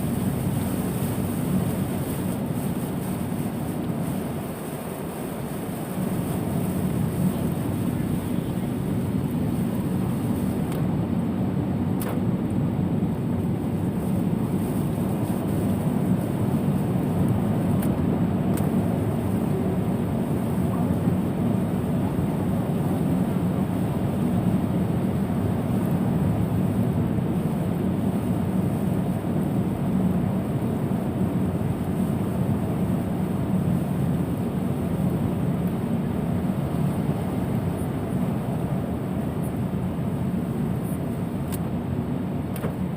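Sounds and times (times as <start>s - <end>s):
tyre noise on wet road: 0.0s - 41.6s.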